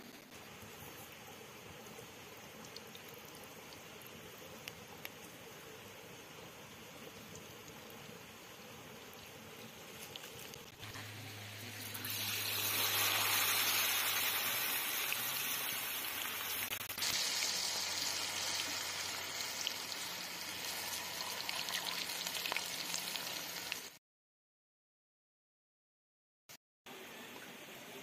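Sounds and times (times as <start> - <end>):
oil sizzling and bubbling: 0.0 - 24.0.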